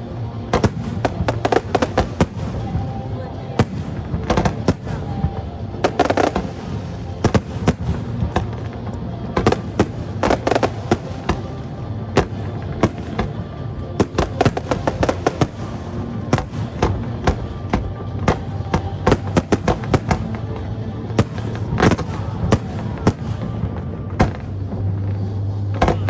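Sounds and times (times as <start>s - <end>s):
fireworks bursting with sharp bangs: 0.0s - 26.0s.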